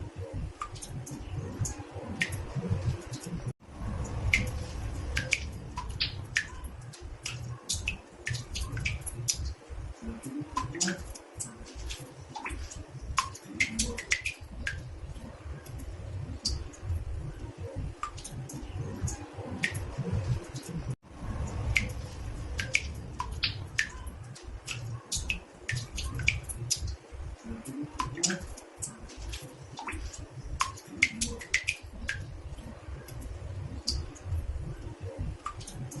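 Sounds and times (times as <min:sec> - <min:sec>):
water drops plinking into bathtub: 0:00.5 - 0:20.7, 0:21.4 - 0:36.0.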